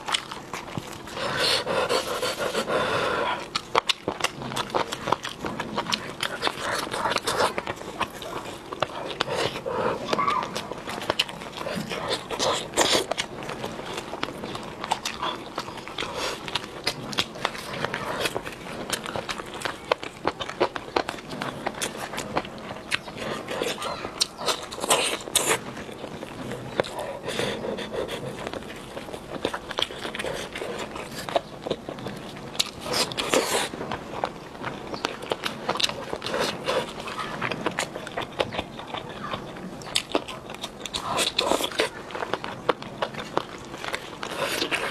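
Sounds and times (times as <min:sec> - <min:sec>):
chewing and lip-smacking: 0:00.0 - 0:44.9.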